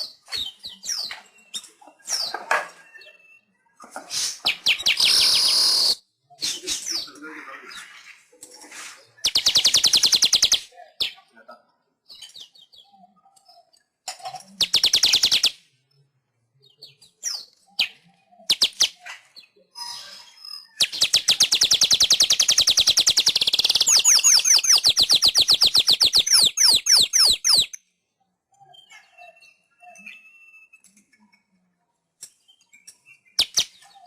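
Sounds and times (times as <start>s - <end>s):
bird song rattling chatter: 0.0s - 11.4s, 12.0s - 34.0s.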